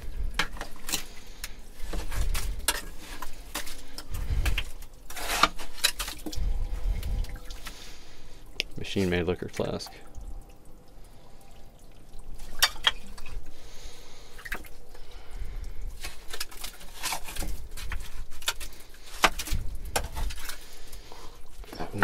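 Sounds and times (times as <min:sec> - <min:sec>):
wet dripping: 0:00.0 - 0:22.0.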